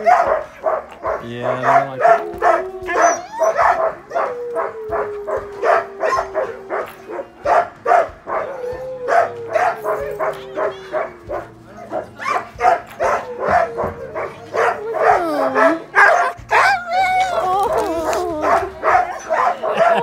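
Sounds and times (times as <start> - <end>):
dog whining: 0.0 - 20.0
dogs barking and yipping: 0.0 - 20.0.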